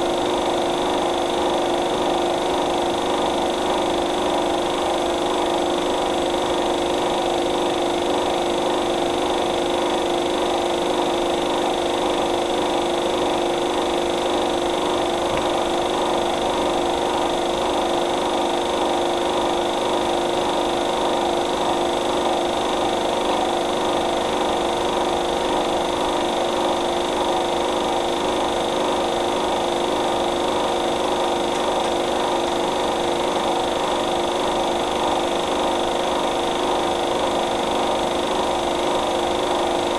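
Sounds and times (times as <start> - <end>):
mechanical drone with hum: 0.0 - 39.9.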